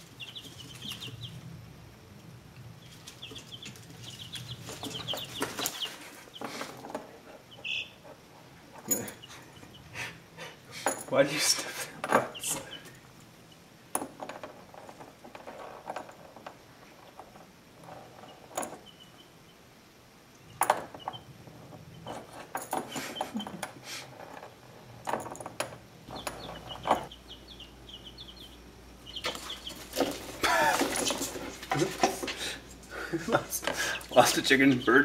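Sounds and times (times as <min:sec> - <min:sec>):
baby chicks peeping: 0:00.0 - 0:01.9, 0:02.6 - 0:10.6, 0:11.2 - 0:13.7, 0:14.5 - 0:23.8, 0:24.4 - 0:35.0.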